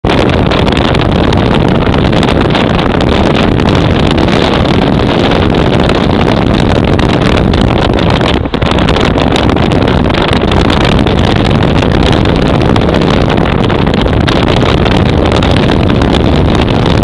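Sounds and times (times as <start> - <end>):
car road noise: 0.0 - 17.0
wind on microphone: 0.0 - 17.0.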